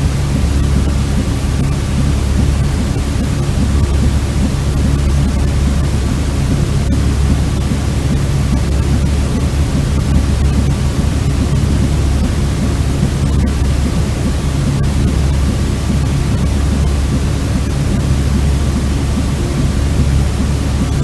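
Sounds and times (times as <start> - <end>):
faint steady hum: 0.0 - 21.0
white noise rushing hiss: 0.0 - 21.0.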